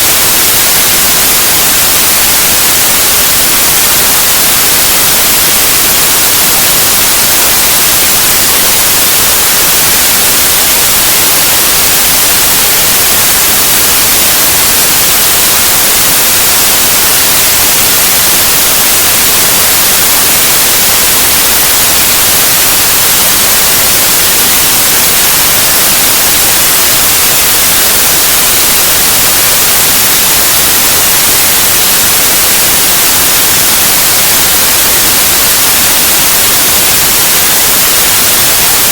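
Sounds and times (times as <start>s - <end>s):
loud white noise hiss: 0.0s - 38.9s.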